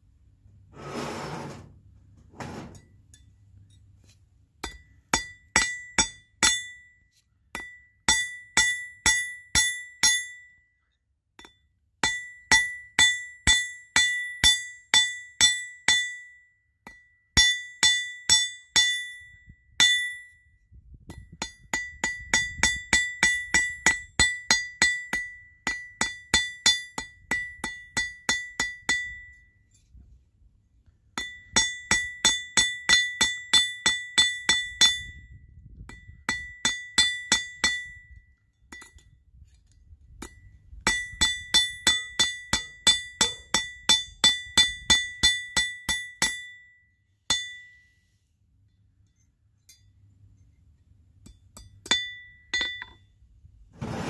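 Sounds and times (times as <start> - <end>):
hammer striking metal with ring: 2.8 - 30.0, 31.2 - 39.5, 40.2 - 50.0, 51.2 - 53.1.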